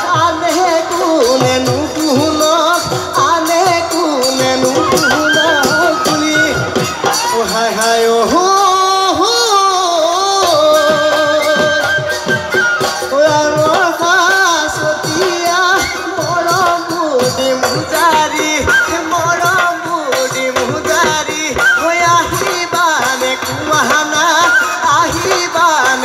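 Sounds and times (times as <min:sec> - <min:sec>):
drum strokes: 0:00.0 - 0:26.0.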